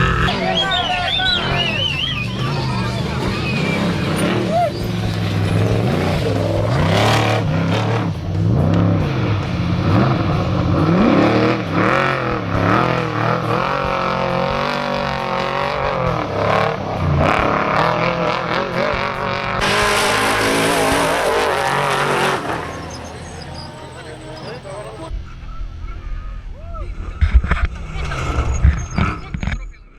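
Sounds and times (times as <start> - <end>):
truck engine revving hard: 0.0 - 25.1.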